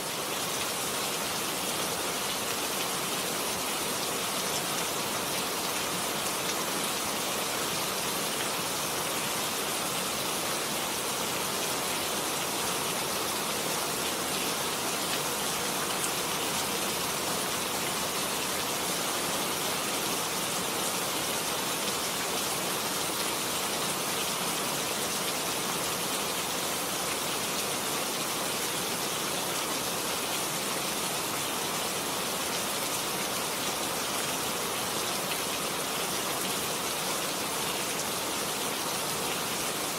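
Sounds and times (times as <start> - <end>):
forest stream running: 0.0 - 39.9
rain falling on leaves: 0.0 - 39.9.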